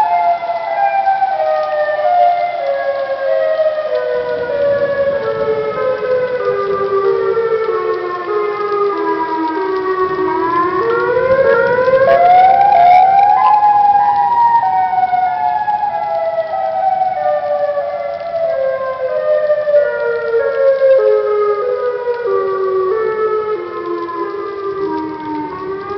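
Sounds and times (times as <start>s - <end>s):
warning sirens wailing: 0.0s - 25.9s.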